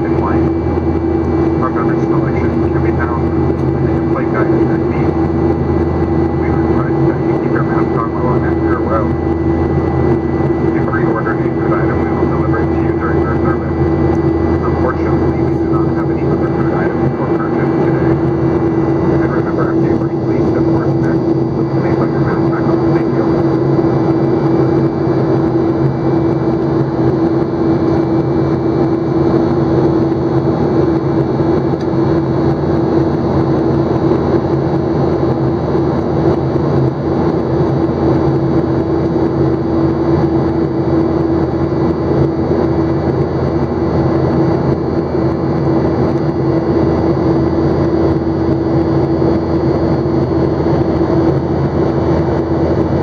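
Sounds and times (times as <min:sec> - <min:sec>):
constant low hum: 0:00.0 - 0:53.0
jet cabin engine drone: 0:00.0 - 0:53.0.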